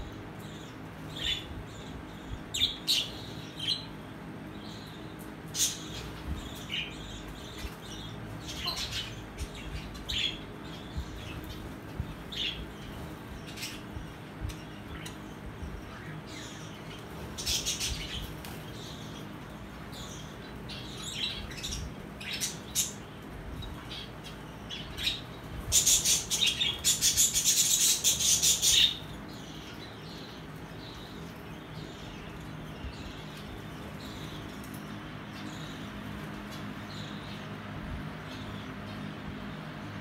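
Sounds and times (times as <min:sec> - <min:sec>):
lovebirds chirping: 0:00.0 - 0:40.0
steady low hum: 0:00.0 - 0:40.0.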